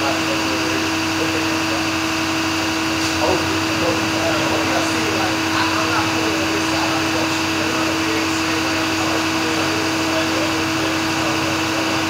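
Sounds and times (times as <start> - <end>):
machine whirring drone: 0.0 - 12.0.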